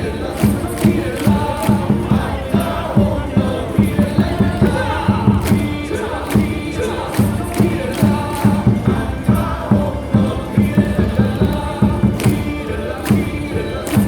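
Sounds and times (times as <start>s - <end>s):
crowd singing and chanting: 0.0s - 14.0s
loud amplified music: 0.0s - 14.0s
steady drum beat: 0.0s - 14.0s.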